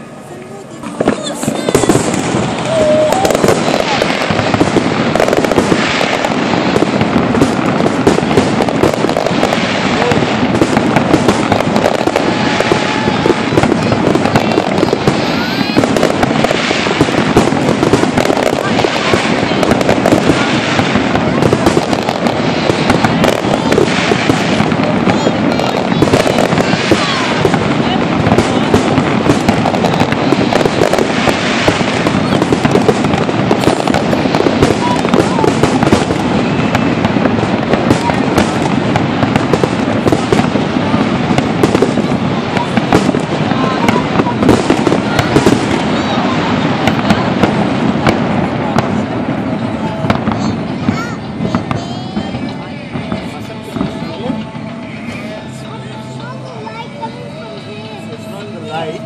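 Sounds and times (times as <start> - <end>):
fireworks crackling and popping: 0.0 - 59.0
spectators' voices: 0.0 - 59.0.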